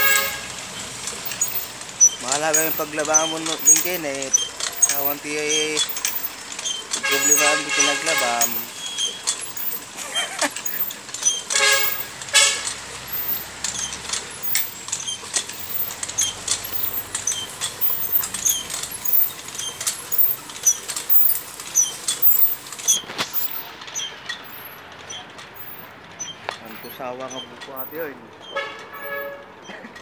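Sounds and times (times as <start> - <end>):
hand water pump squeaking and knocking: 0.0 - 30.0.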